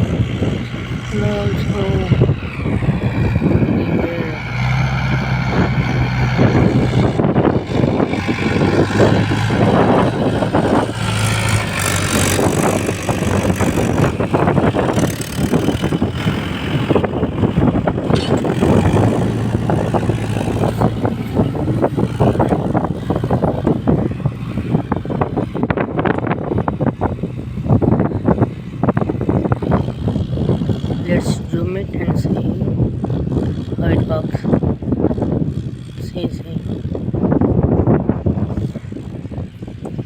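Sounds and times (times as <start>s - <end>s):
tractor diesel engine clatter: 0.0s - 40.0s.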